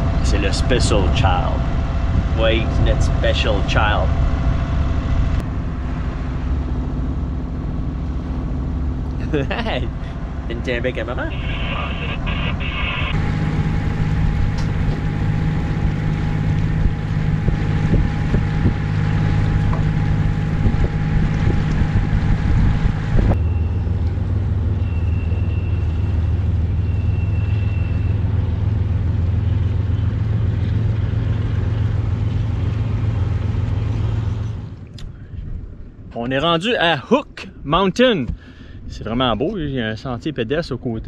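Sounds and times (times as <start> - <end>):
boat diesel engine droning: 0.0 - 41.0.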